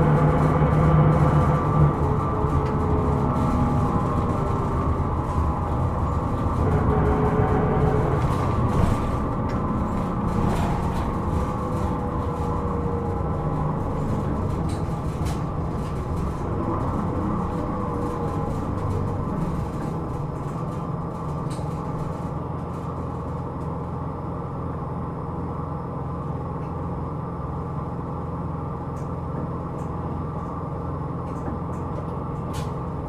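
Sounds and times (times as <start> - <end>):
bus engine drone: 0.0 - 33.0.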